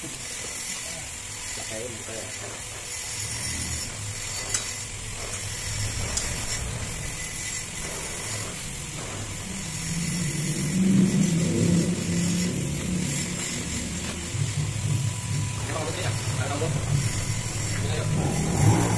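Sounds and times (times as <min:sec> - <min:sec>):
gas welding torch hissing: 0:00.0 - 0:18.9
engine running: 0:03.1 - 0:18.9.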